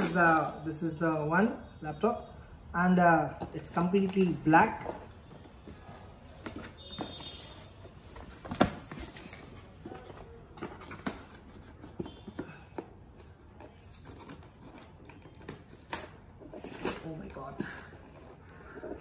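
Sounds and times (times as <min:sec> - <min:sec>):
cardboard and plastic rustling: 0:00.0 - 0:00.7, 0:03.4 - 0:19.0.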